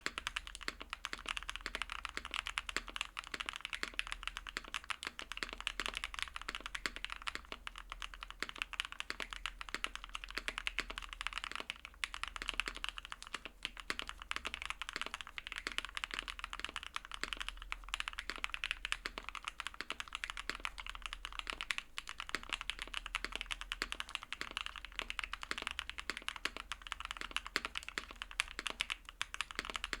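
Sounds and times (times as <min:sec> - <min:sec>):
mechanical keyboard typing: 0:00.0 - 0:30.0.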